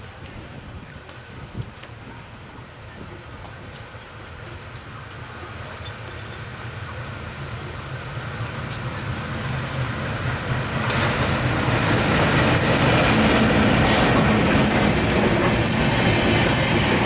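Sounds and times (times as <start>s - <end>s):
diesel locomotive engine drone: 0.0s - 17.0s
train wheels rumbling on rail: 0.0s - 17.0s.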